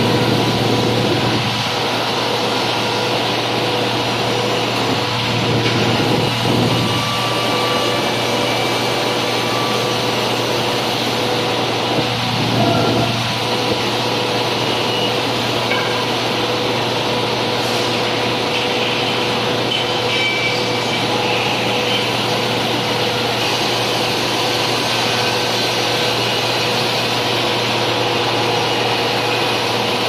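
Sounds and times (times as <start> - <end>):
band saw hum and whine: 0.0 - 30.0.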